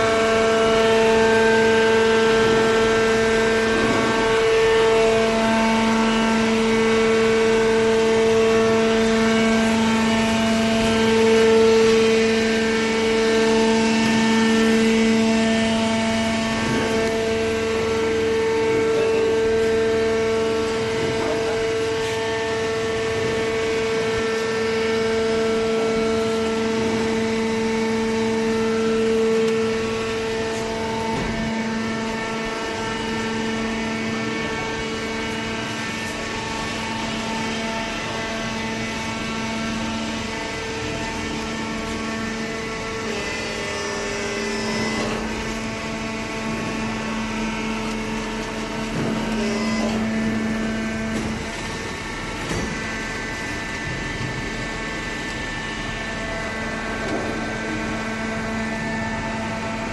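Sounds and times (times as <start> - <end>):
hydraulic pump motor whining hum: 0.0 - 59.9.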